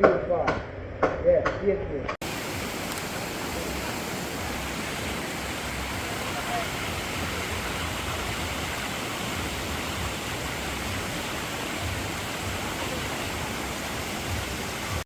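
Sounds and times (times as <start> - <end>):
river water rushing over falls: 2.2 - 15.0.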